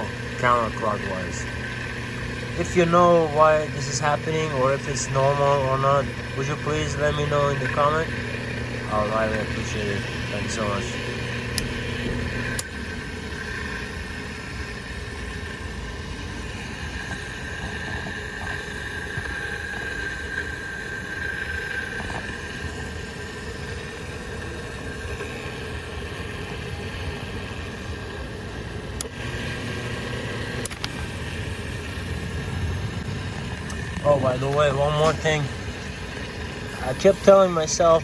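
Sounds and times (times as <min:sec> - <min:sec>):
electric motor humming and whining: 0:00.0 - 0:38.0.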